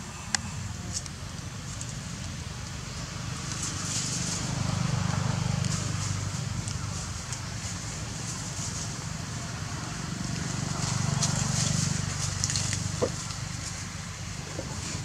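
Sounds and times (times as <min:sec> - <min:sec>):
dry leaves crackling: 0:01.0 - 0:15.0.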